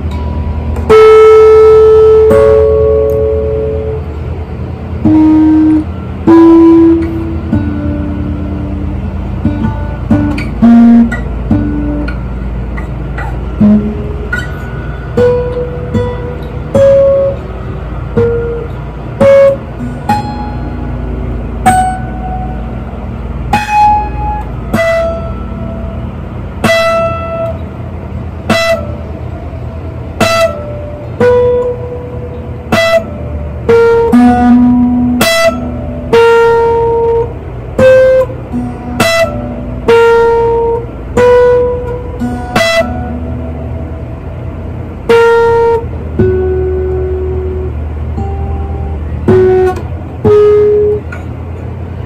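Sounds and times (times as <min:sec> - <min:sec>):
slow plucked melody: 0:00.0 - 0:52.0
steady low hum: 0:00.0 - 0:52.0.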